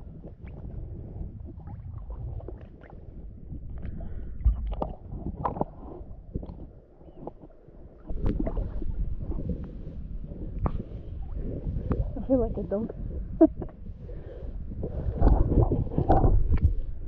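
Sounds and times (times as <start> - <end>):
low gurgling rumble: 0.0 - 17.0
water lapping and sloshing: 0.0 - 17.0.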